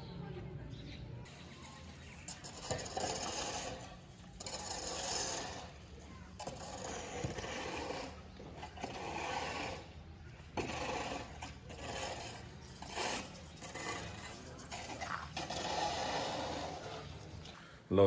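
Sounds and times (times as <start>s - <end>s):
gritty scraping on cement and brick: 0.7s - 17.7s.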